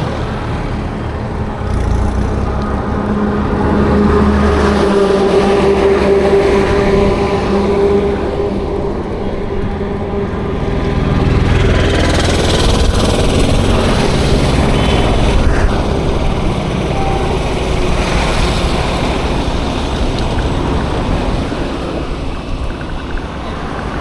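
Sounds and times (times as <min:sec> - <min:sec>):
heavy vehicle engine running: 0:00.0 - 0:24.0
road and tyre noise: 0:00.0 - 0:24.0.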